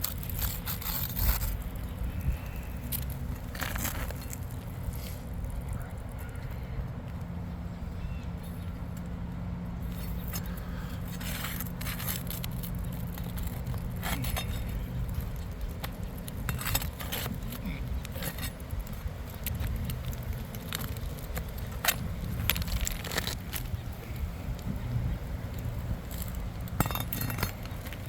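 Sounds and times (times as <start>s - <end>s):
clicks clinks and scrapes: 0.0s - 5.6s, 9.8s - 24.8s, 25.5s - 28.0s.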